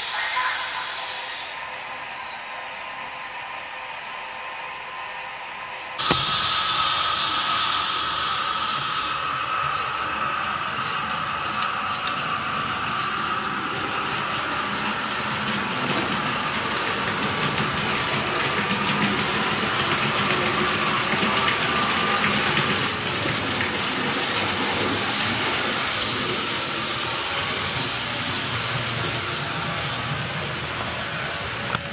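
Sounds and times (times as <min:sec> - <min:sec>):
model train running: 0:00.0 - 0:31.9
wheels clicking on track: 0:06.0 - 0:31.9.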